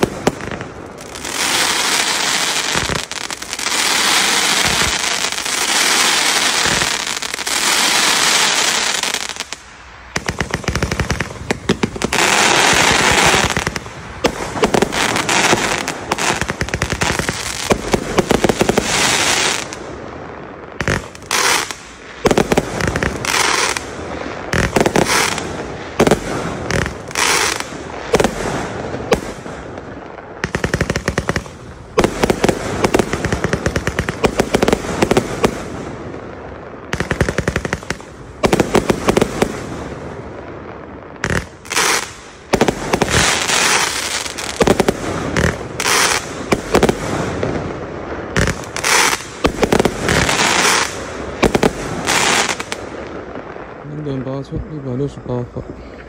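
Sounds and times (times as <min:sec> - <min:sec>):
fireworks launching and bursting: 0:00.0 - 0:56.0.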